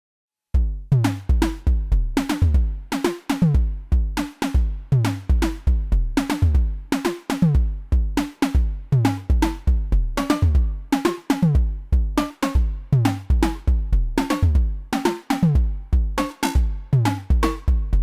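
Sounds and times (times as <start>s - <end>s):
deep kick drum thumps: 0.6s - 6.9s, 7.5s - 14.9s, 15.5s - 18.0s.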